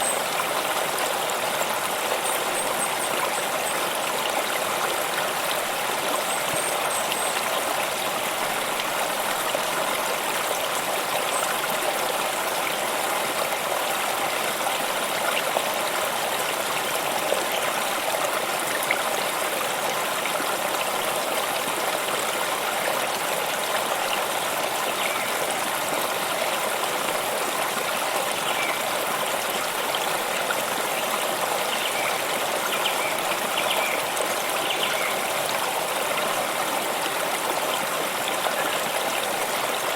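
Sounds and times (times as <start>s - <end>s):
water stream trickling: 0.0s - 39.9s.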